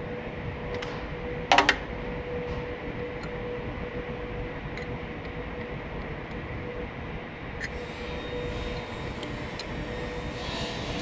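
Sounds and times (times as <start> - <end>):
faint constant tone: 0.0 - 11.0
machinery hum: 0.0 - 11.0.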